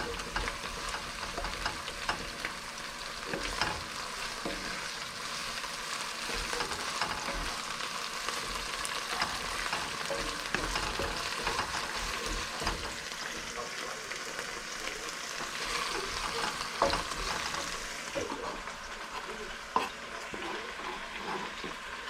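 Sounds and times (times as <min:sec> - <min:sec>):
food sizzling in a frying pan: 0:00.0 - 0:22.0
utensil scraping a pan: 0:00.0 - 0:22.0.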